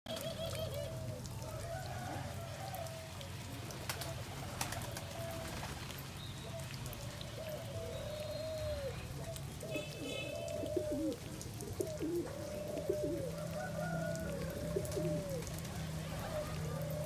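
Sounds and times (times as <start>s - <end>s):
pigeons cooing: 0.1s - 5.8s, 6.4s - 17.0s.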